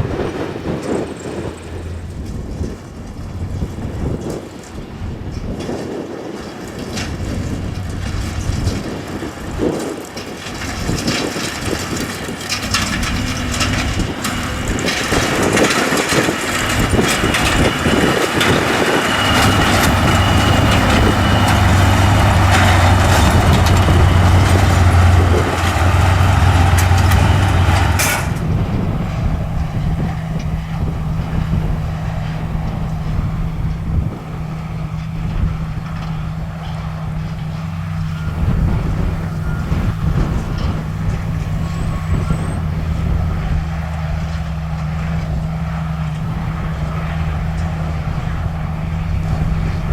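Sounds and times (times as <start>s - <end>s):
farm machinery engine drone: 0.0s - 49.9s
loud mechanical clatter: 0.0s - 49.9s.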